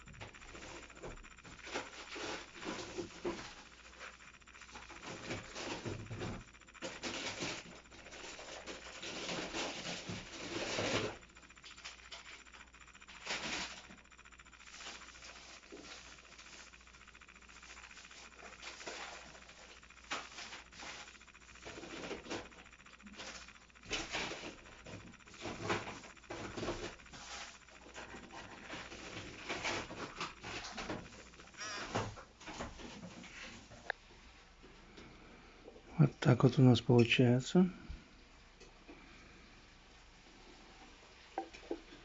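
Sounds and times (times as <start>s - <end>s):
plastic scratching and clicking: 0.0s - 34.0s.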